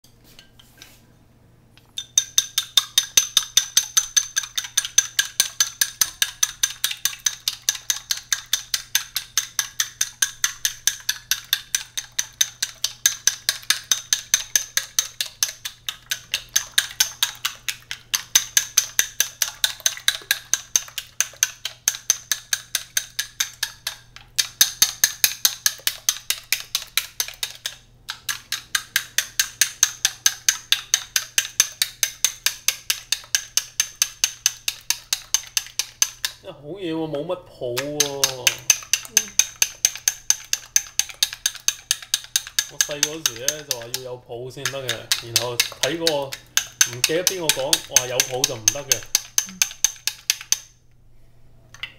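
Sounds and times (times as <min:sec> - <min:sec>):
chopsticks clicking on glass bowl: 0:01.9 - 0:36.4, 0:37.8 - 0:44.0, 0:44.6 - 0:50.7.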